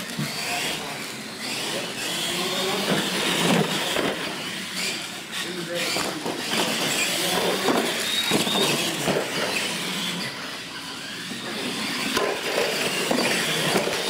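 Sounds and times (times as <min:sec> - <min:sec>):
toy truck motors running: 0:00.0 - 0:14.0.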